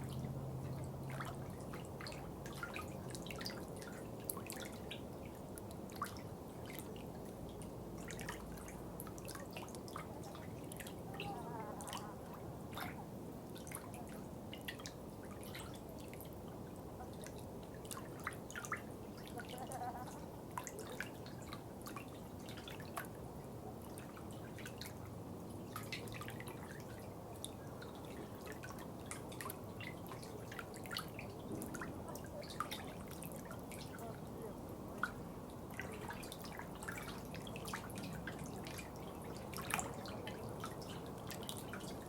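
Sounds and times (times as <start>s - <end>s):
low background noise: 0.0s - 42.0s.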